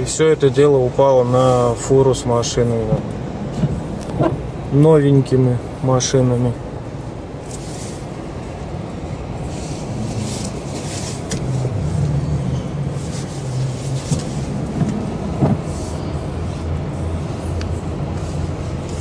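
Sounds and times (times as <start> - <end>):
road traffic engine rumble: 0.0 - 19.0.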